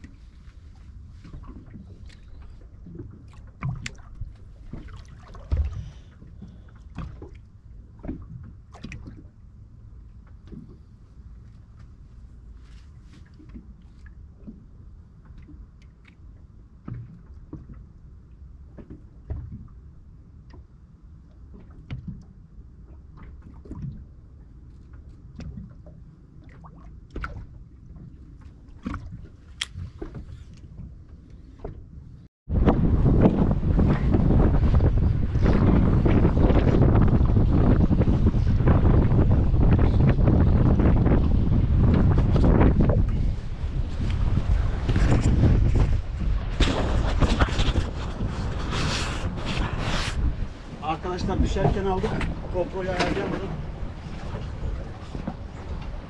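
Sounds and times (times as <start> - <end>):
water and wind rumbling: 0.0 - 56.0.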